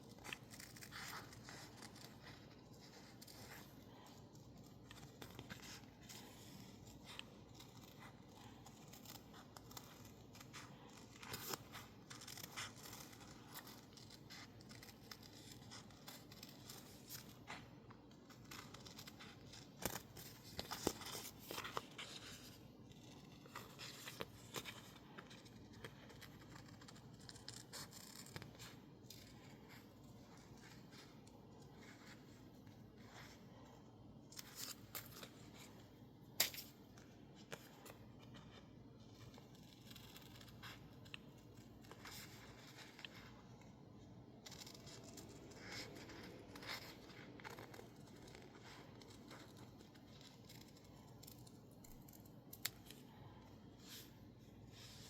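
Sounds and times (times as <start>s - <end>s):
scissors snipping paper: 0.0s - 32.3s, 36.3s - 43.4s, 44.4s - 53.1s
paper rustling: 0.0s - 43.7s, 44.4s - 55.0s.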